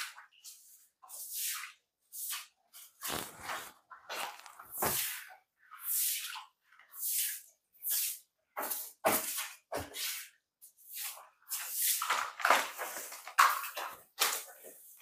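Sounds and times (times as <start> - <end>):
broom sweeping a tiled floor: 0.0 - 15.0
mop wiping tiles: 0.0 - 15.0.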